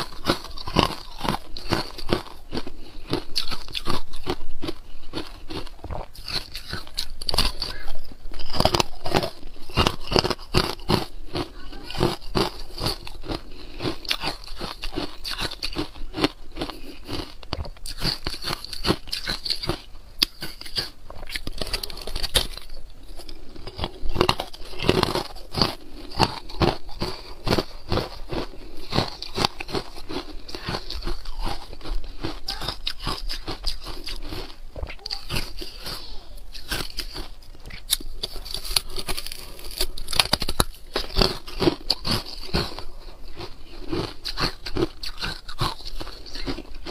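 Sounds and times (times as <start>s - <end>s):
ice cubes crunching: 0.0s - 36.0s, 36.6s - 46.9s.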